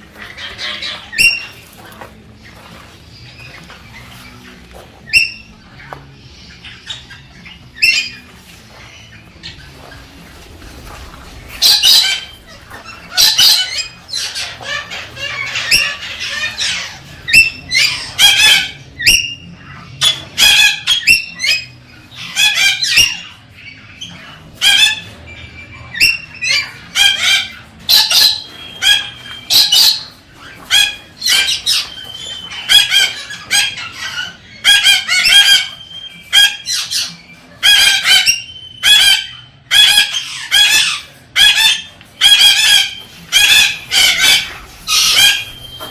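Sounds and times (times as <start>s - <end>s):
cockatoo squawking: 0.0s - 45.9s.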